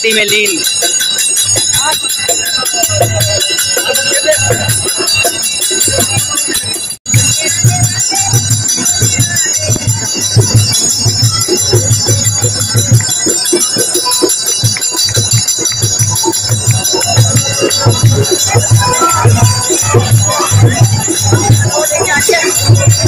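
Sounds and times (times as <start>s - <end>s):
dholak drum beat: 0.0s - 23.0s
harmonium: 0.0s - 23.0s.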